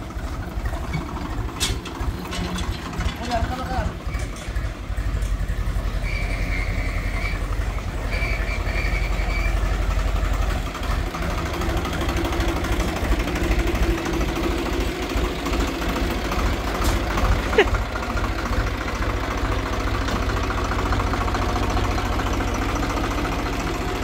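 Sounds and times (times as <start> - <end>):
diesel tractor engine chugging: 0.0 - 24.0.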